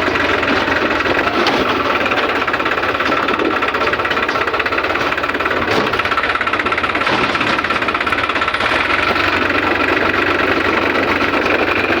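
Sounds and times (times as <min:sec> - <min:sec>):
tractor diesel engine knocking: 0:00.0 - 0:12.0.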